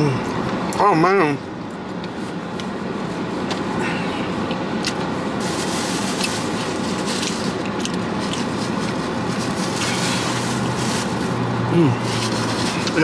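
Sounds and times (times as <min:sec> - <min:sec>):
air-conditioning blower rushing: 0:00.0 - 0:13.0.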